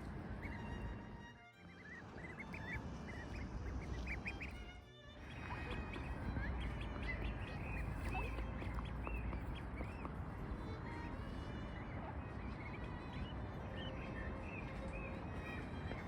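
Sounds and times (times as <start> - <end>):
ducklings peeping: 0.0 - 1.0, 1.8 - 16.0.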